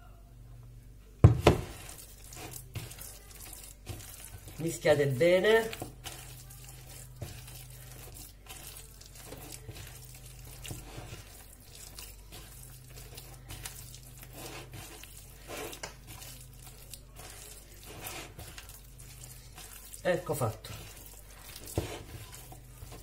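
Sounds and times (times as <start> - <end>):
faint low hum: 0.0 - 23.0
hands kneading soft dough: 1.2 - 23.0.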